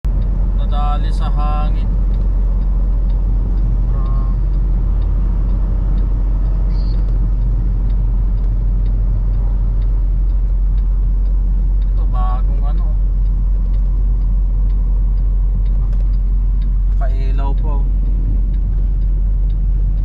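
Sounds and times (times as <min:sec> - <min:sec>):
truck rumbling: 0:00.0 - 0:20.0.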